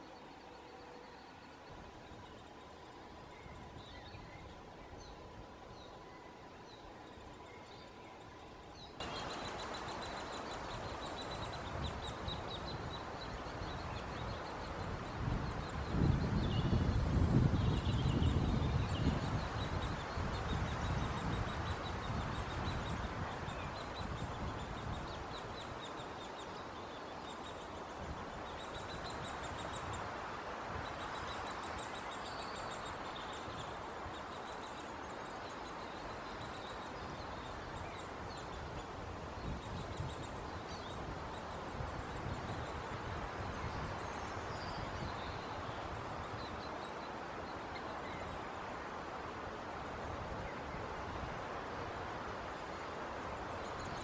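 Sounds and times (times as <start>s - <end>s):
small birds chirping: 1.0s - 49.6s.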